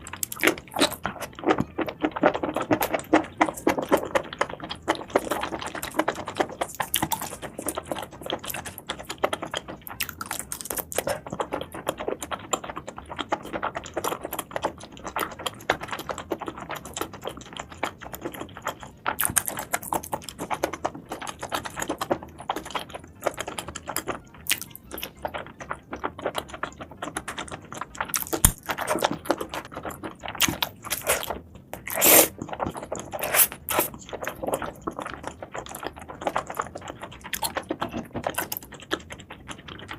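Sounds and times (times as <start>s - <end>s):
chewing and crunching seafood: 0.0s - 39.9s.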